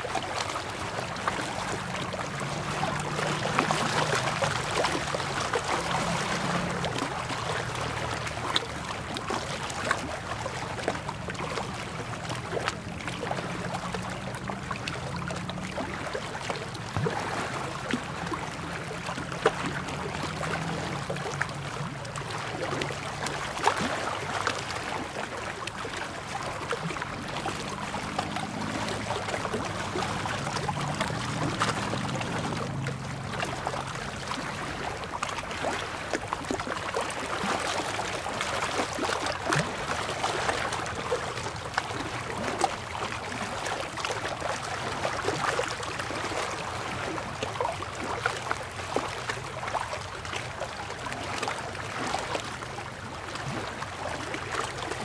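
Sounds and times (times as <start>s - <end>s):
small waves lapping on rocks: 0.0s - 55.0s.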